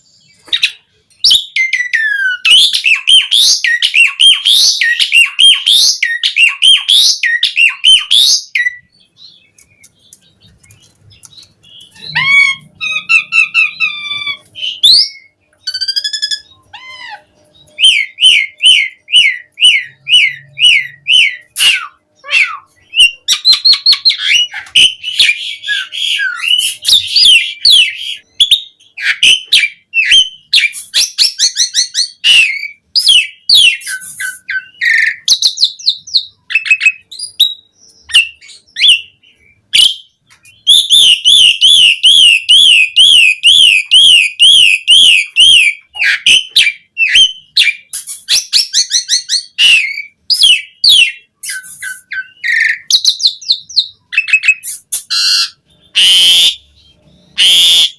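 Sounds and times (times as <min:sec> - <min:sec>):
starling singing: 0:00.0 - 0:57.9.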